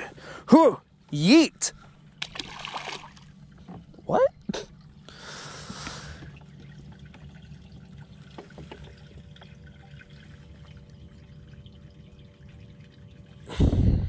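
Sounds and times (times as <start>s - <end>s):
faint hum: 0.0s - 14.0s
low steady rumble: 0.0s - 14.0s
water lapping against boat hull: 1.8s - 14.0s.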